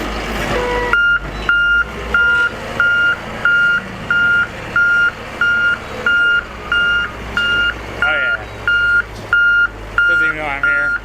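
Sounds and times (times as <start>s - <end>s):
diesel engine running: 0.0s - 11.0s
backup alarm beeping: 0.5s - 11.0s.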